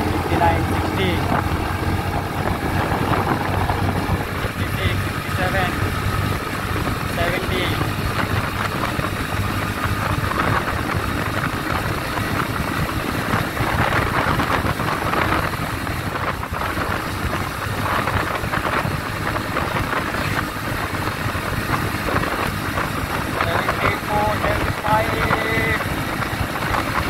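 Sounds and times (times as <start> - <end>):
motorcycle engine at full throttle: 0.0 - 27.0
road noise: 0.0 - 27.0
wind rush: 0.0 - 27.0.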